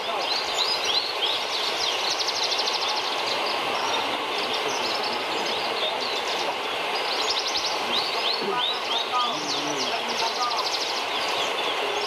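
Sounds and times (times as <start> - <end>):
larks singing trills: 0.0 - 12.0.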